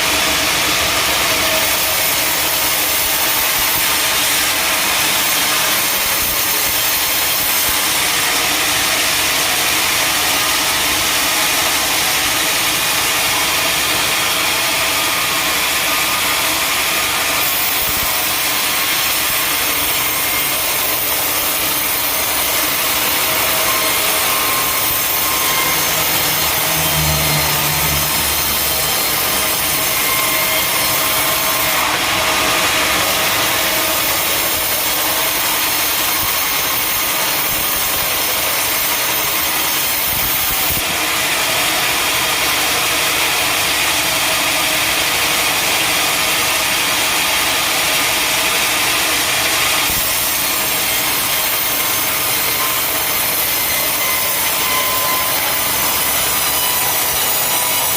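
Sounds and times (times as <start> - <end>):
saw cutting through wood: 0.0 - 57.9.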